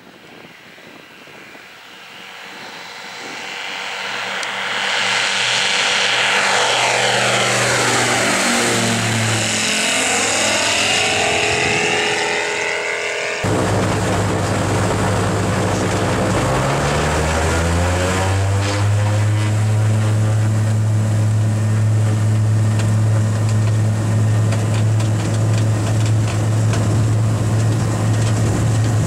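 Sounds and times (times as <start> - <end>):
propeller plane passing by: 0.0 - 29.0.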